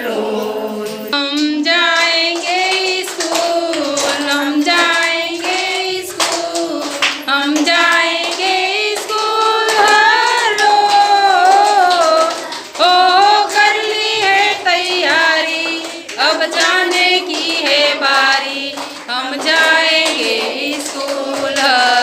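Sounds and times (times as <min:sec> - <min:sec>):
person singing a song: 0:00.0 - 0:22.0
hand claps: 0:00.9 - 0:22.0.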